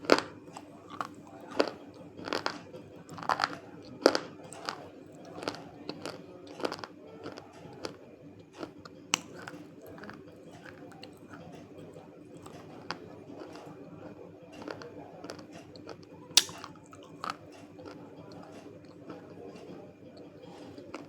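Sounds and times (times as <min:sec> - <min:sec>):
crunchy clay chunks being chewed: 0:00.0 - 0:21.0.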